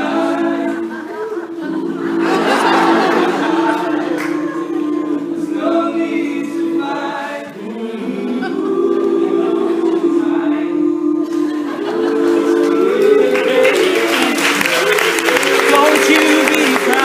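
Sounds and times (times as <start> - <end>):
men singing a cappella: 0.0 - 17.0.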